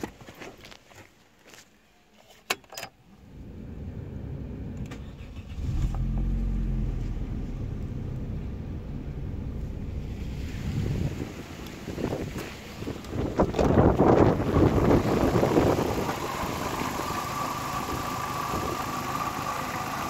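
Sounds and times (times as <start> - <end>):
car engine starting and idling: 2.8 - 20.0.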